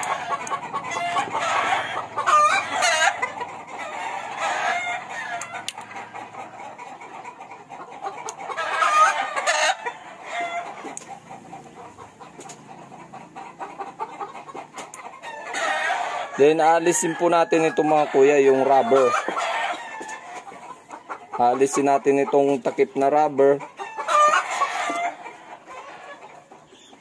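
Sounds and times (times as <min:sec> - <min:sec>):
roosters crowing: 0:00.0 - 0:06.9, 0:08.4 - 0:12.0, 0:15.0 - 0:26.8
hens clucking: 0:00.0 - 0:27.0.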